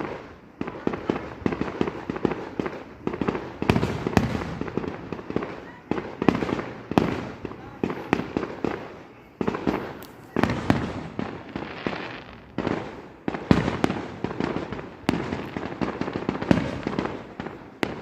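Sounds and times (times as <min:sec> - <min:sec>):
fireworks crackling: 0:00.0 - 0:18.0
fireworks shells bursting: 0:00.0 - 0:18.0.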